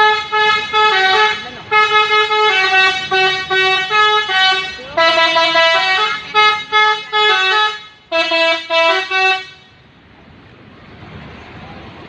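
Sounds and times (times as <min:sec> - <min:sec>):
musical bus horn tune: 0:00.0 - 0:09.8.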